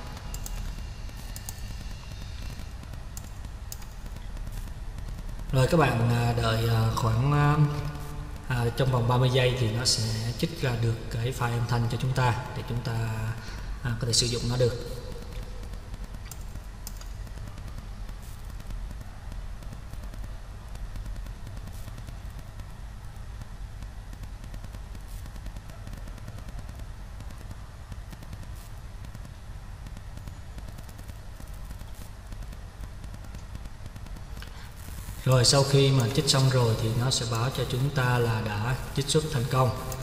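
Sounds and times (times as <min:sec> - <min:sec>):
low hum: 0:00.0 - 0:40.0
steady background hiss: 0:00.0 - 0:40.0.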